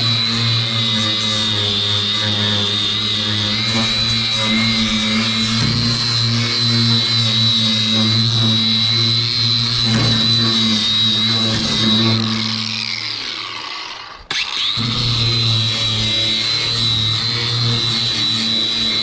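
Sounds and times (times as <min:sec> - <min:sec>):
power tool motor whining: 0:00.0 - 0:19.0.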